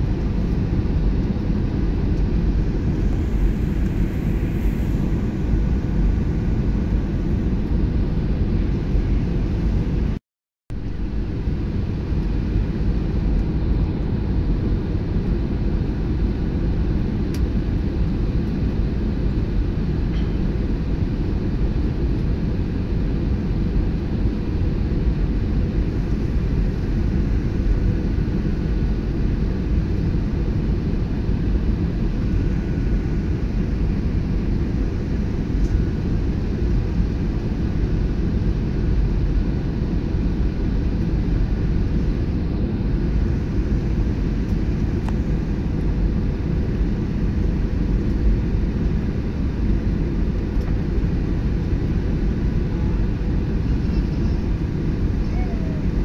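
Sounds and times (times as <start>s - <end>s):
jet engines rumbling: 0.0s - 10.2s, 10.8s - 56.0s.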